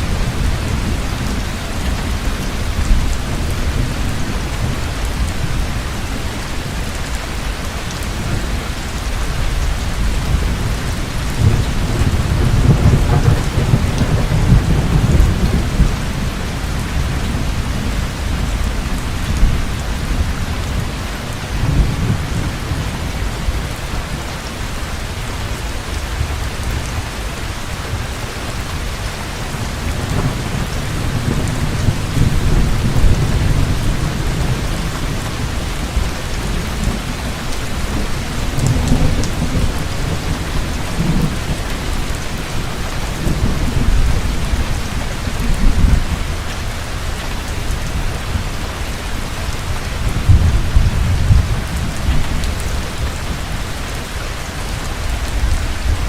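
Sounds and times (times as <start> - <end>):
low thunder rumbling: 0.0 - 28.2, 28.8 - 54.2
heavy rain pouring: 0.0 - 56.0.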